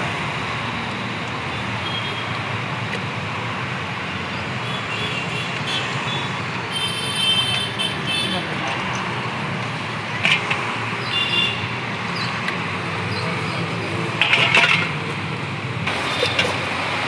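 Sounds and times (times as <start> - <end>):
passing traffic: 0.0 - 17.0.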